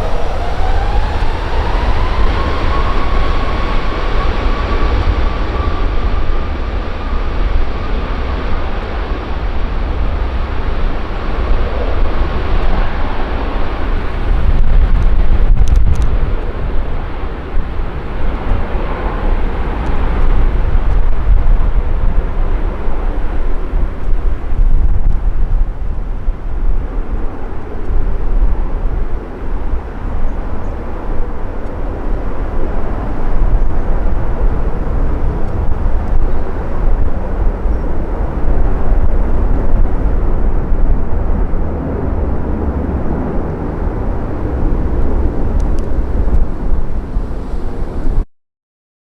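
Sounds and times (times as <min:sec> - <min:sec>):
jet engines at takeoff power: 0:00.0 - 0:48.2
wind buffeting microphone: 0:00.0 - 0:48.2.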